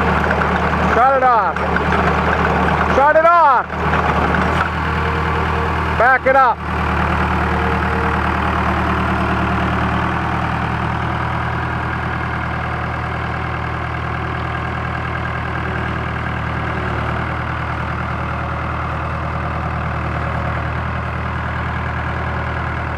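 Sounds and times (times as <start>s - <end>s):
trencher engine running: 0.0s - 22.9s.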